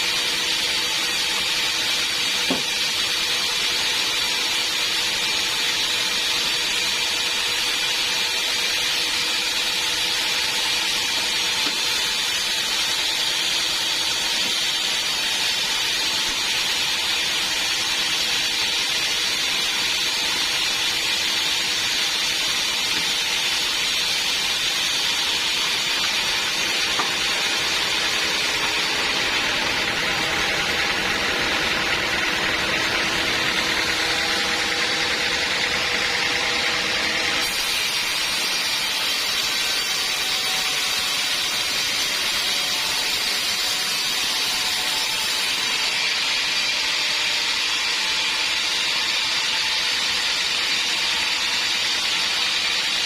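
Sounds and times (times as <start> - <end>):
band saw running: 0.0 - 53.0.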